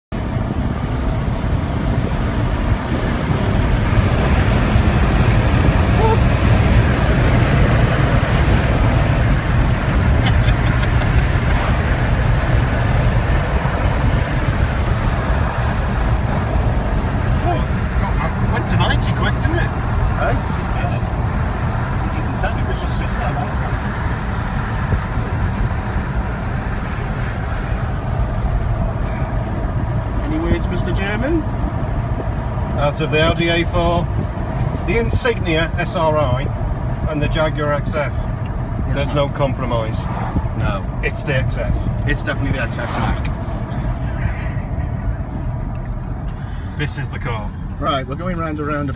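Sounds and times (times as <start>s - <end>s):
wind noise: 0.1s - 35.8s, 40.0s - 46.4s
car interior road rumble: 0.1s - 48.9s.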